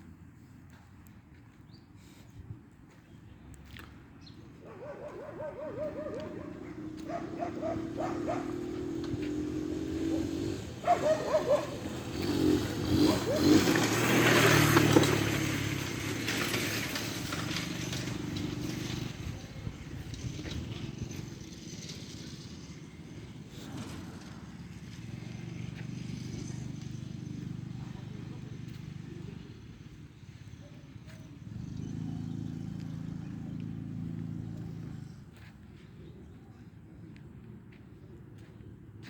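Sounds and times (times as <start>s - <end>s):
motor vehicle passing by: 3.3s - 39.0s.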